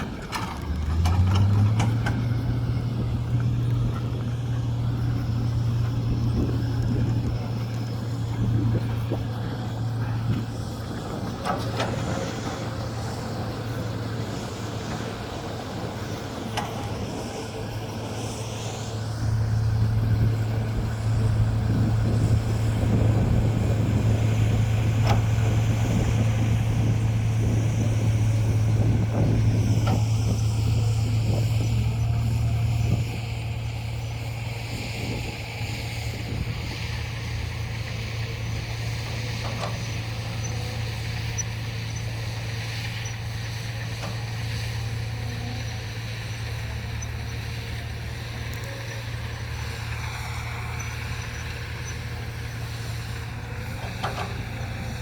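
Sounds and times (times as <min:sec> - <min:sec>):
diesel engine of heavy machinery: 0:00.0 - 0:55.0.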